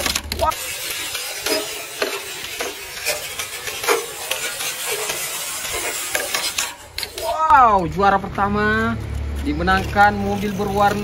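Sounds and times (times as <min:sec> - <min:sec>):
sharp scrapes and knocks: 0:00.0 - 0:07.7, 0:08.9 - 0:11.0
toy cars rolling on wood: 0:00.0 - 0:11.0.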